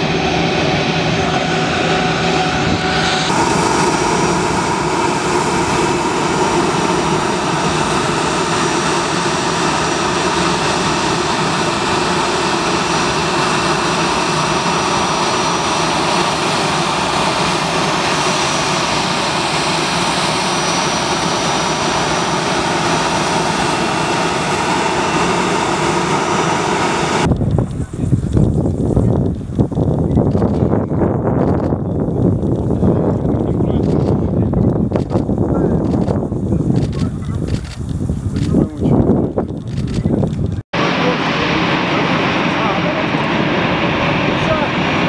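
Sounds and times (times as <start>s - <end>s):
higher engine whine: 0.0s - 45.0s
jet engines whining: 0.0s - 45.0s.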